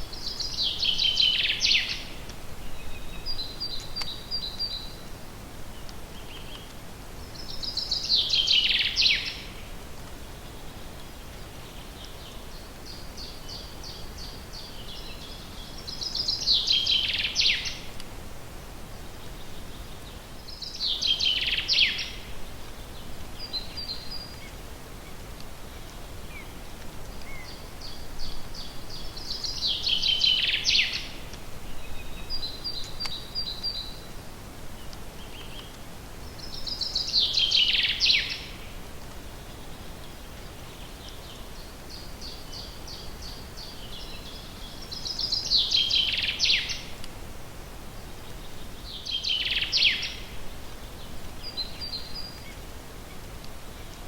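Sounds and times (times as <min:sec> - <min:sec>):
songbird singing: 0:00.0 - 0:18.2, 0:18.8 - 0:54.0
forest ambience hiss: 0:00.0 - 0:54.0.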